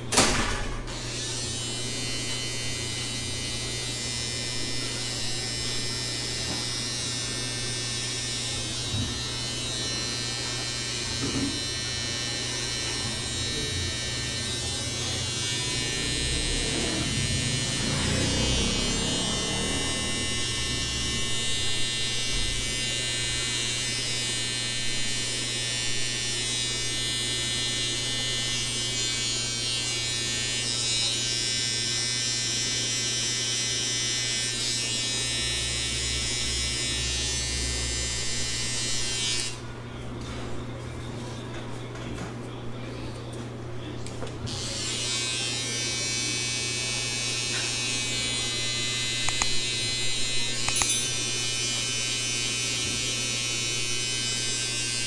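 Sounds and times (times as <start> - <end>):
electric clippers buzzing: 0.0 - 39.8, 44.4 - 55.0.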